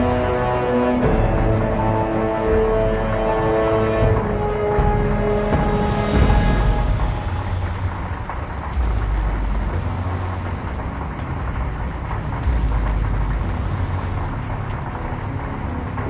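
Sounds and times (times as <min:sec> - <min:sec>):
rain hiss: 0:00.0 - 0:16.0
thunder rumbling: 0:00.0 - 0:16.0.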